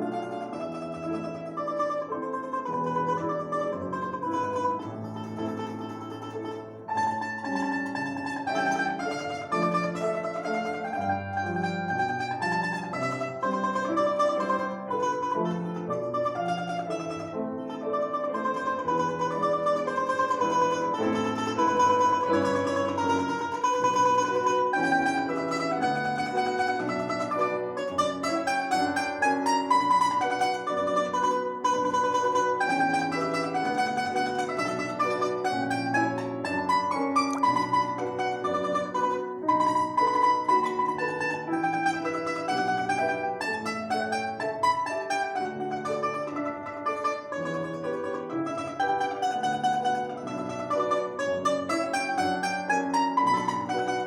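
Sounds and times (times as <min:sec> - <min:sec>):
plucked string instrument melody: 0:00.0 - 0:54.0.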